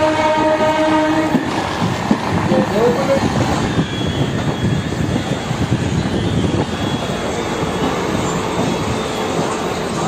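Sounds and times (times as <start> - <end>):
train rattling rumble: 0.0 - 10.0.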